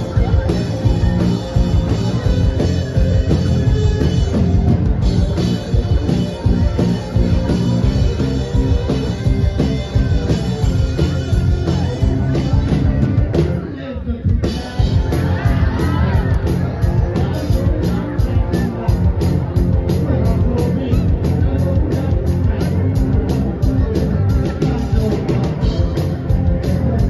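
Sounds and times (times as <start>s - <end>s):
bass guitar: 0.0s - 27.0s
drum kit: 0.0s - 27.0s
electric guitars: 0.0s - 27.0s
keyboard: 0.0s - 27.0s.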